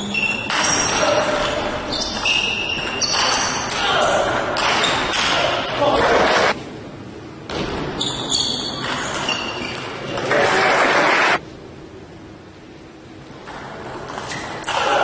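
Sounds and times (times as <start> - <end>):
rushing hall noise: 0.0 - 8.8, 9.6 - 13.8.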